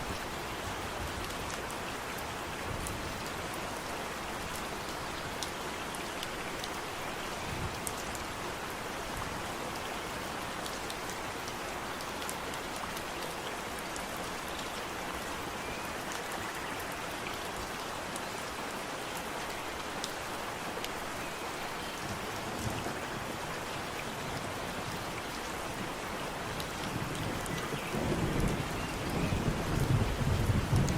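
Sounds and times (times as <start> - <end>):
steady rain hiss: 0.0 - 30.9.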